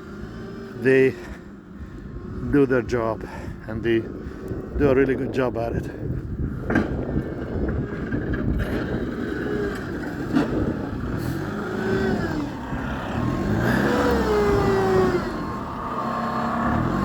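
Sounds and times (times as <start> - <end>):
snow-clearing vehicle engine revving: 0.0 - 17.0.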